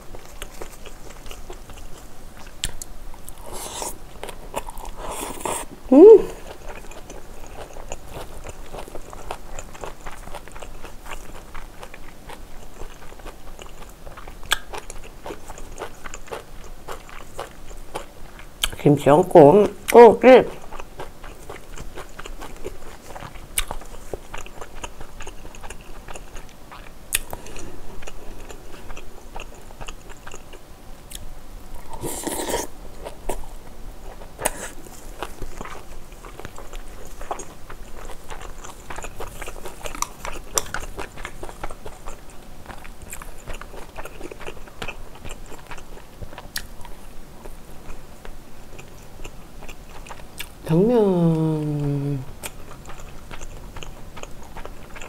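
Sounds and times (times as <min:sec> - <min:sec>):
wet chewing and mouth clicks: 0:00.0 - 0:05.7, 0:06.4 - 0:18.8, 0:20.6 - 0:50.6, 0:51.6 - 0:55.0.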